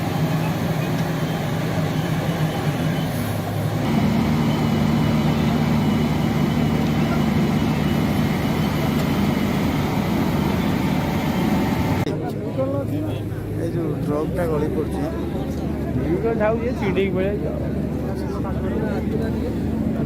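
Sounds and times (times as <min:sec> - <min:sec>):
heavy engine running: 0:00.0 - 0:12.1, 0:13.3 - 0:20.0.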